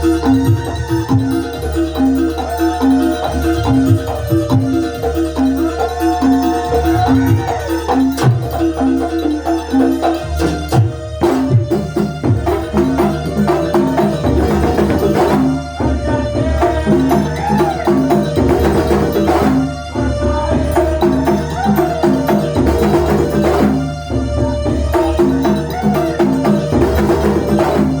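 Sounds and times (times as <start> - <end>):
drums and percussion: 0.0 - 28.0.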